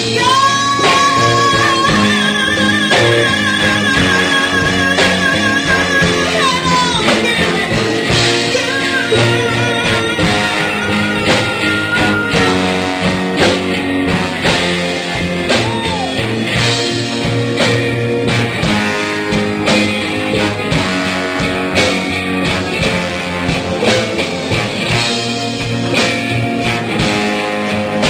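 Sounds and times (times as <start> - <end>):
bass: 0.0 - 28.0
guitar: 0.0 - 28.0
drum beat: 0.9 - 28.0.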